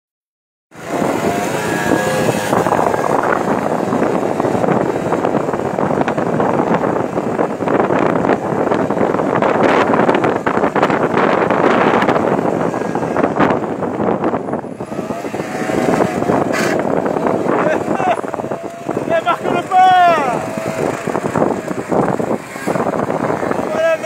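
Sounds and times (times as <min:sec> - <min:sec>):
wind noise on microphone: 0:00.7 - 0:24.0
scooter engine revving: 0:00.8 - 0:06.6, 0:10.0 - 0:24.0.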